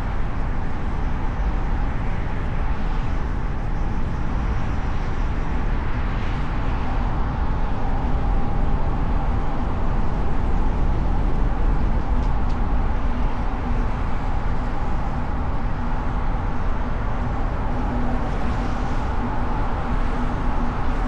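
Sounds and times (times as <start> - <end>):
faint steady hum: 0.0 - 21.0
road and wind noise: 0.0 - 21.0.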